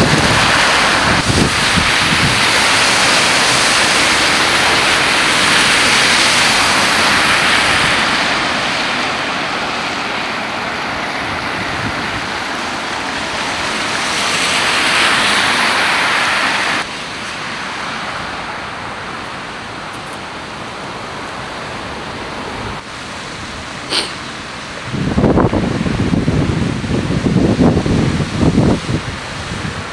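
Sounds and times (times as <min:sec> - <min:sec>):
tyres swishing through water: 0:00.0 - 0:25.0
rushing water: 0:00.0 - 0:29.9.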